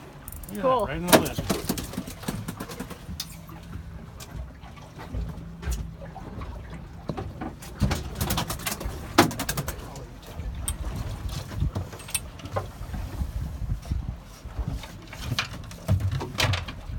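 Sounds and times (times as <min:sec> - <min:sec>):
low boat engine hum: 0:00.0 - 0:16.9
water splashing against boat hull: 0:00.0 - 0:16.9.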